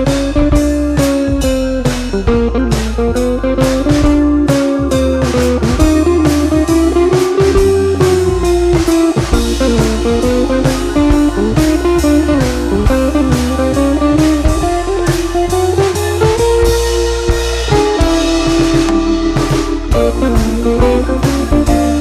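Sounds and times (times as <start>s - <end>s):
blues guitar music: 0.0s - 22.0s
drum kit beat: 0.0s - 22.0s.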